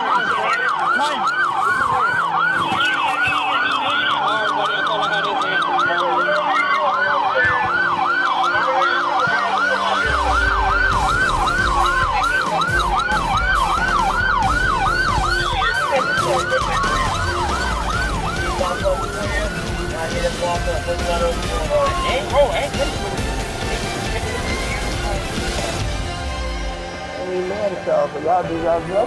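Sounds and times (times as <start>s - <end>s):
police siren yelp: 0.0s - 25.9s
slower siren wail: 0.0s - 25.9s.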